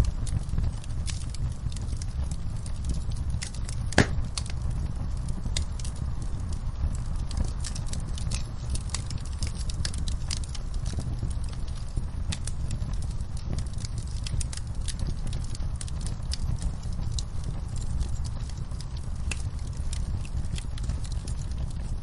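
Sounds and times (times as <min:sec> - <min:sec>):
flames rumbling: 0:00.0 - 0:22.0
logs crackling and popping: 0:00.0 - 0:22.0.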